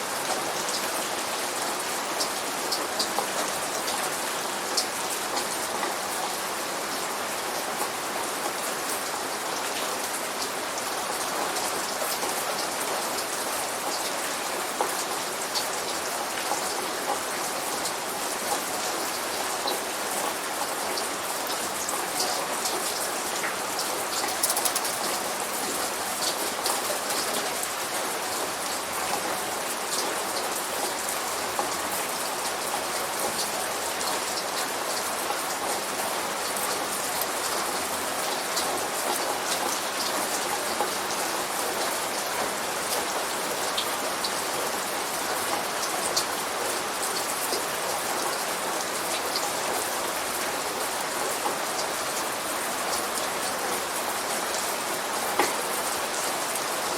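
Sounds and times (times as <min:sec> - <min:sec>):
light rain falling: 0:00.0 - 0:56.9.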